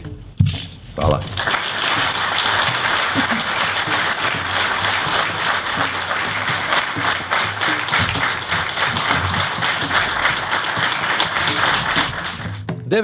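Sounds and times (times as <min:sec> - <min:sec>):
music: 0:00.0 - 0:13.0
audience applauding: 0:01.3 - 0:12.7.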